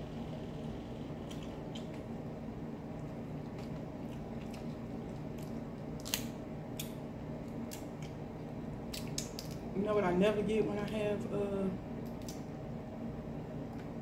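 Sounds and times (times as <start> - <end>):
small fan humming: 0.0 - 14.0.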